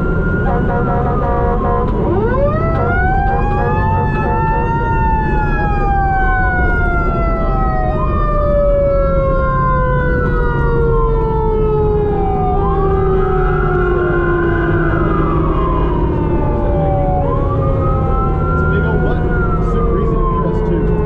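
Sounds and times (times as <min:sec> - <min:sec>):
siren wailing: 0:00.0 - 0:21.0
siren winding up and down: 0:00.0 - 0:21.0
truck engine and road rumble: 0:00.0 - 0:21.0.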